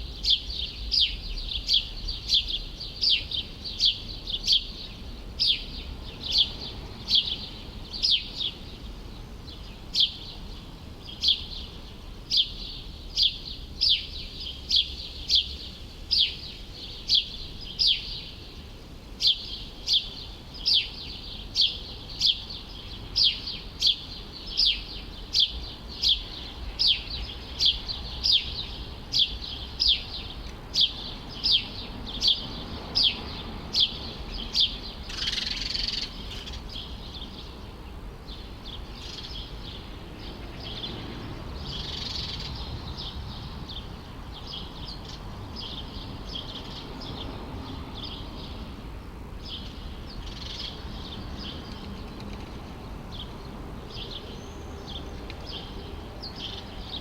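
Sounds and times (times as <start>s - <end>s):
faint low city rumble: 0.0s - 57.0s
songbird chirping: 0.0s - 57.0s.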